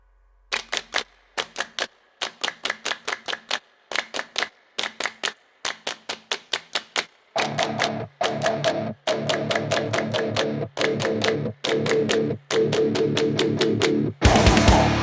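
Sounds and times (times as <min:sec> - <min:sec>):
sharp clicks in groups: 0:00.5 - 0:14.5.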